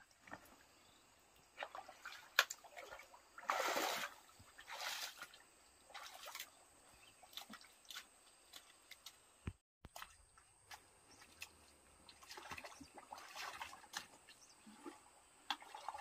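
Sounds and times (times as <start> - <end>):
water splashing from a bucket: 1.4 - 6.6, 7.2 - 9.1, 9.9 - 16.0.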